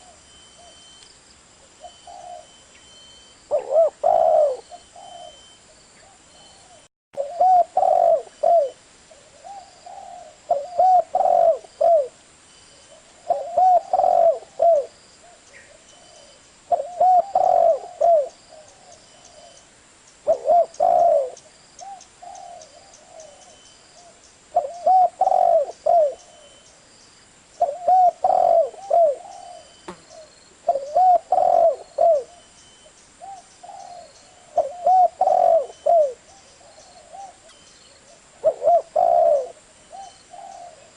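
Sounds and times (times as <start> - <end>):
dove cooing: 1.7 - 2.7, 3.5 - 12.2, 12.9 - 19.6, 20.2 - 26.9, 27.6 - 32.5, 33.2 - 40.9.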